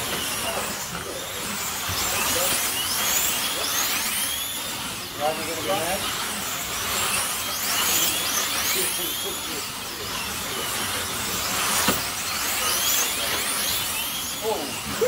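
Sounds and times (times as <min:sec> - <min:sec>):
slot car motors whining: 0:00.0 - 0:15.0.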